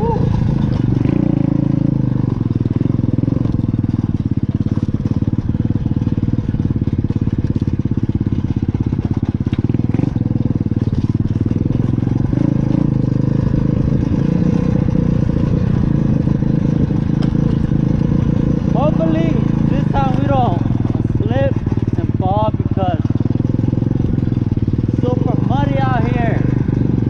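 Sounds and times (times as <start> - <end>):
motorbike engine running: 0.0 - 27.0.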